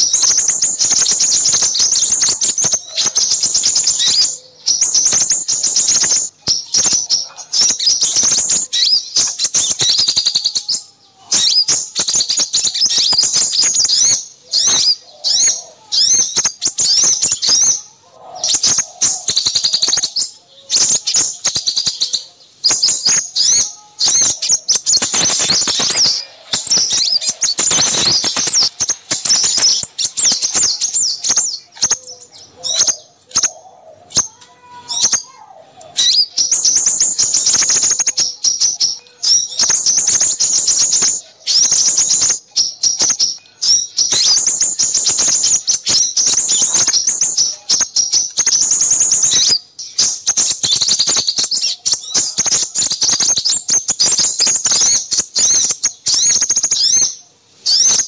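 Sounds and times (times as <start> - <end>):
small songbirds chirping and trilling: 0.0 - 58.0.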